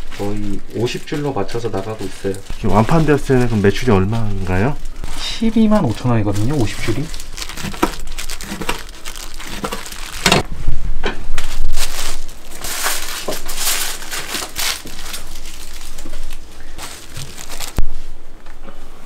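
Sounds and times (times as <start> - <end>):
aluminium foil crinkling: 0.0 - 10.4, 11.4 - 18.1.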